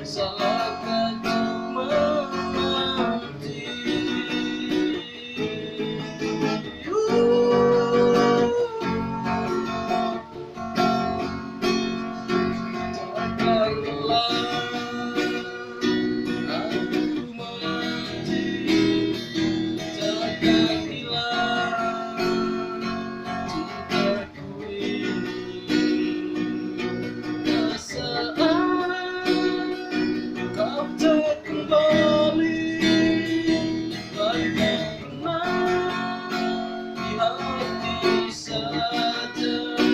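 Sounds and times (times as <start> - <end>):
acoustic guitar song: 0.0 - 39.9.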